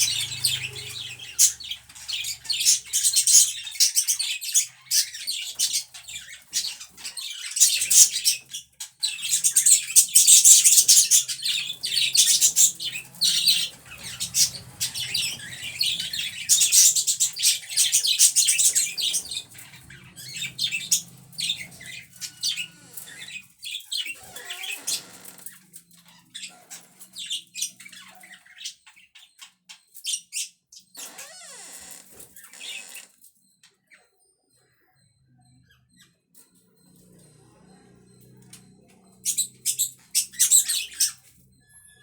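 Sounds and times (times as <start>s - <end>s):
budgerigars chattering and chirping: 0.0s - 42.0s.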